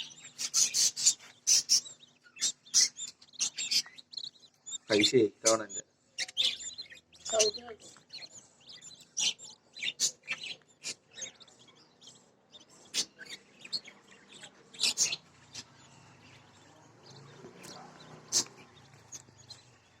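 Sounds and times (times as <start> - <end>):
budgies chirping: 0.0 - 20.0.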